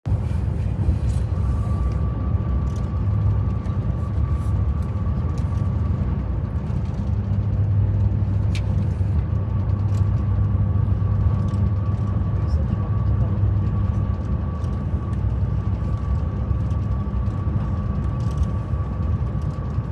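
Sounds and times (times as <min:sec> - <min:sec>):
train interior rumble: 0:00.0 - 0:19.9.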